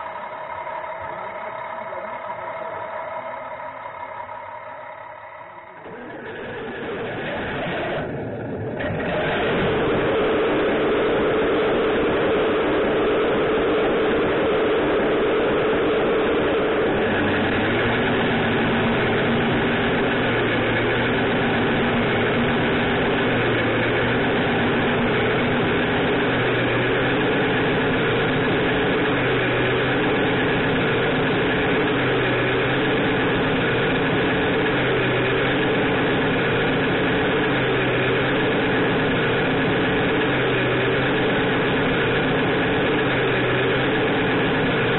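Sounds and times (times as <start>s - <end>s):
low pulse: 0.0s - 44.9s
simulated diesel engine idling: 0.0s - 44.9s.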